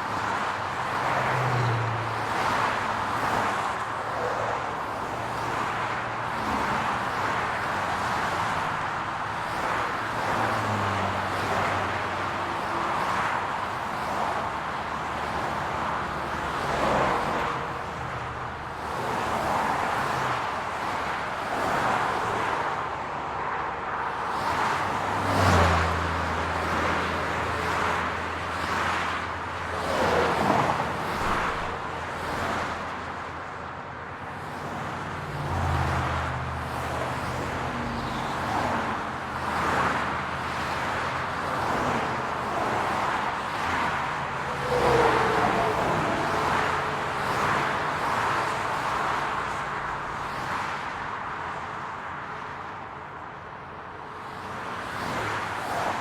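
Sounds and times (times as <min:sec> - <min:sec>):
car engines humming: 0:00.0 - 0:52.4
tyre and road noise: 0:00.0 - 0:56.0.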